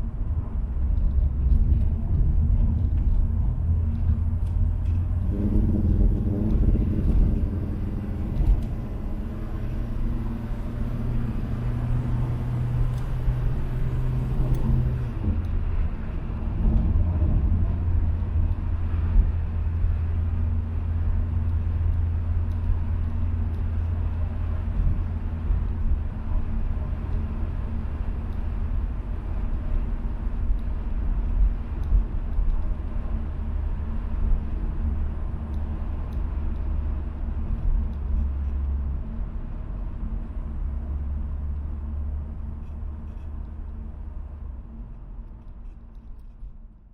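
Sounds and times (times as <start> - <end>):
diesel car engine rumbling: 0.0 - 46.9.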